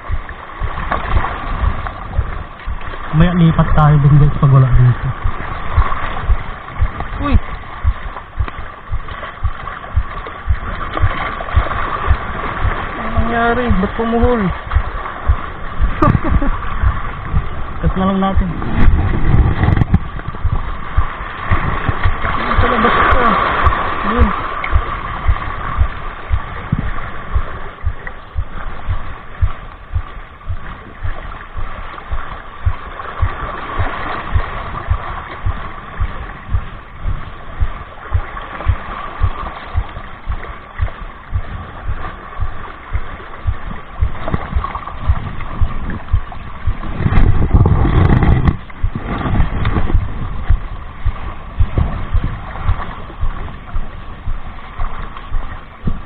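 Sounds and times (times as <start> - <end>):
sea water lapping against rocks: 0.0 - 56.0
wind buffeting microphone: 0.0 - 56.0.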